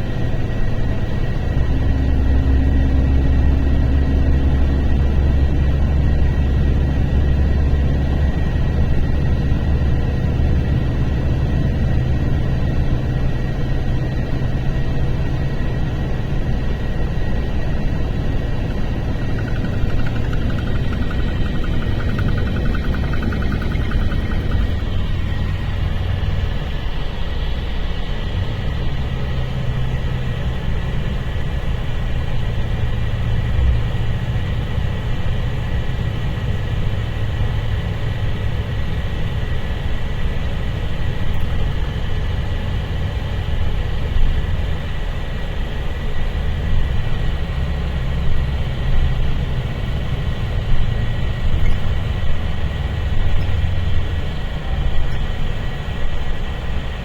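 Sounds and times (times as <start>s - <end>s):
bus engine rumbling: 0.0s - 57.0s.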